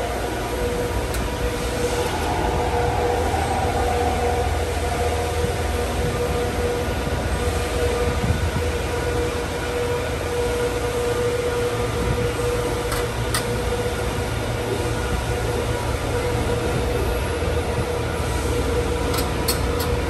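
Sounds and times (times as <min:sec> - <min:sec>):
machine hum with whine: 0:00.0 - 0:20.0.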